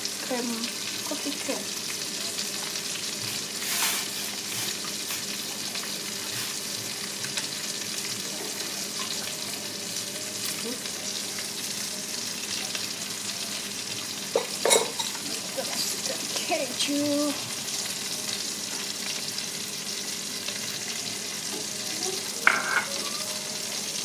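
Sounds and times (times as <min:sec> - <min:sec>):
sauce sizzling and bubbling: 0:00.0 - 0:24.0.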